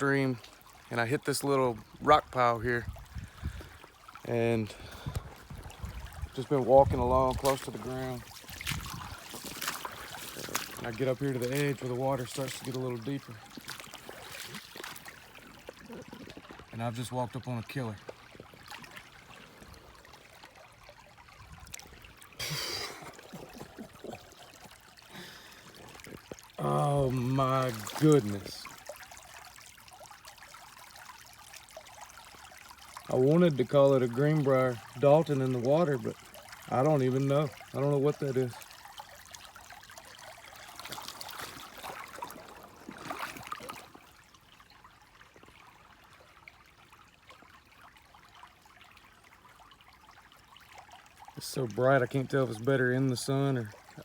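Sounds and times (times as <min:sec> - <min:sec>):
water trickling over rocks: 0:00.0 - 0:54.0.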